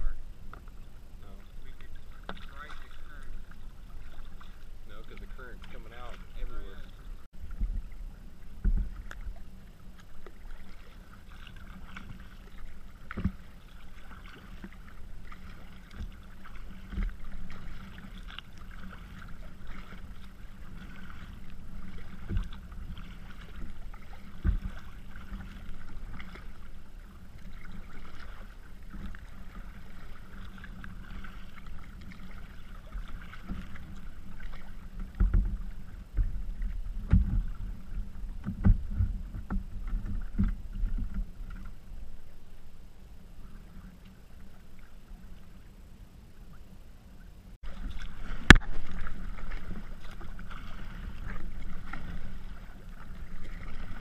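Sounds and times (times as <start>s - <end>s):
paddle stroke splash: 0.0s - 54.0s
waves slapping kayak hull: 0.0s - 54.0s.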